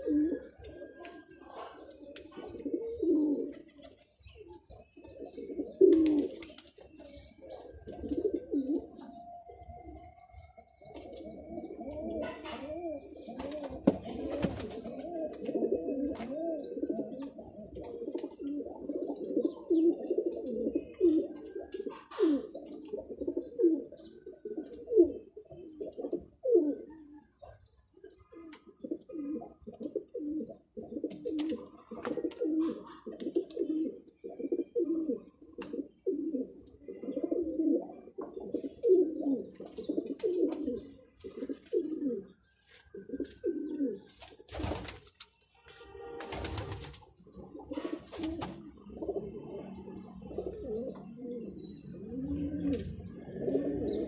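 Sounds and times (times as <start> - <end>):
pigeons cooing: 0.0 - 45.0, 46.2 - 54.0.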